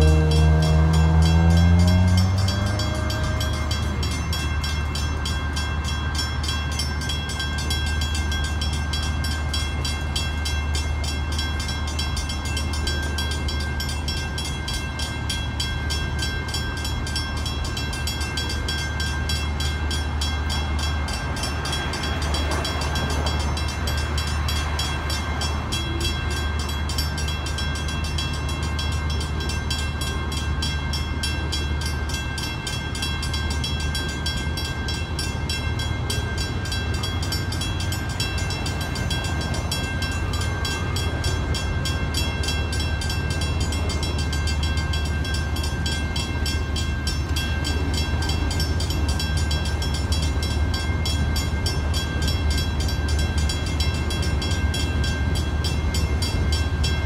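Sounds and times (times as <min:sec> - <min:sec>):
crossing warning bells ringing: 0:00.0 - 0:57.0
freight cars rumbling: 0:00.0 - 0:57.0.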